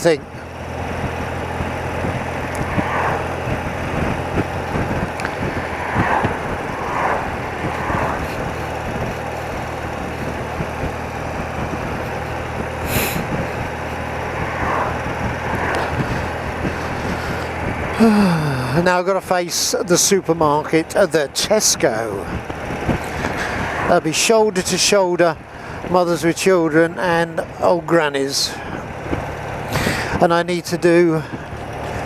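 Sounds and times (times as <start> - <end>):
motorcycle engine running: 0.0 - 32.0
road and traffic noise: 0.0 - 32.0.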